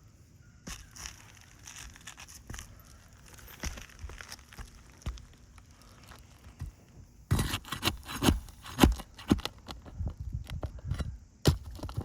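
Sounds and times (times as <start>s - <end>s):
roof shingle crackling and scraping: 0.7s - 12.0s.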